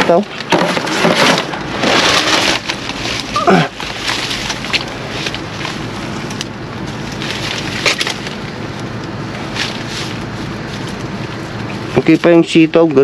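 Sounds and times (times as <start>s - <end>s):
low background hum: 0.0s - 13.0s
plastic bags rustling and crinkling: 0.1s - 12.7s.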